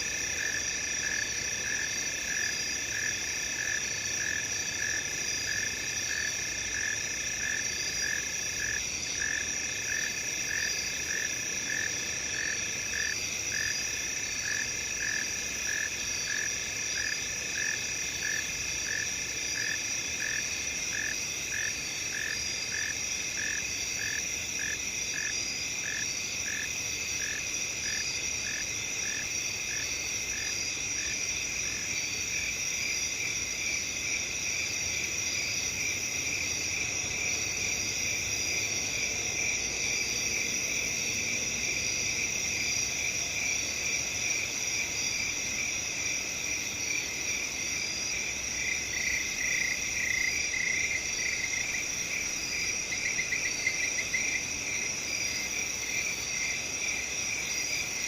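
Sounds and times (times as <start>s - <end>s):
crickets and insects chirring: 0.0s - 58.0s
short repeated insect call: 0.0s - 58.0s.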